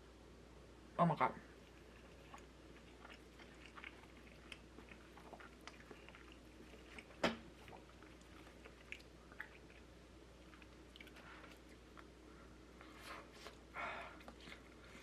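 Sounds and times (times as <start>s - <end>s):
chewing: 1.5s - 12.2s, 12.8s - 15.0s.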